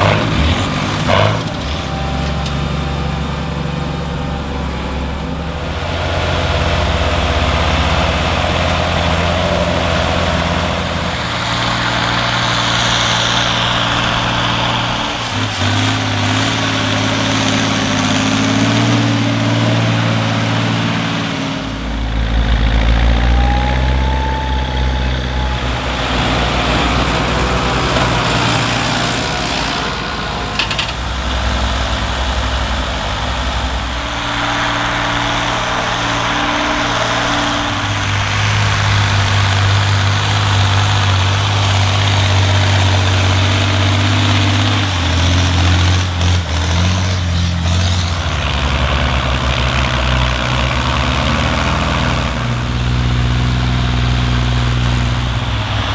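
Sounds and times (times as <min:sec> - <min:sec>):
heavy diesel engines running: 0:00.0 - 0:55.9.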